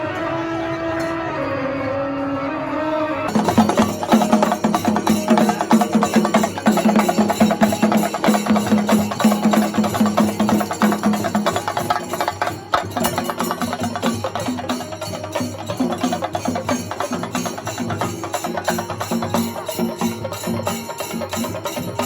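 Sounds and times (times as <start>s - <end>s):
held melodic tone: 0.0s - 22.0s
group of drums beating fast: 3.3s - 22.0s.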